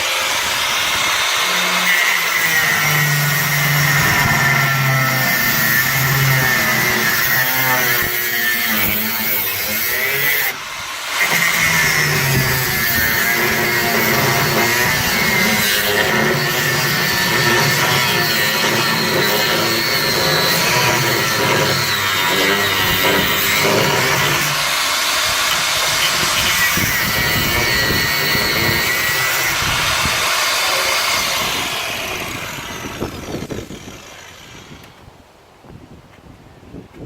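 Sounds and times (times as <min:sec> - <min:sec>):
angle grinder cutting steel: 0:00.0 - 0:35.0.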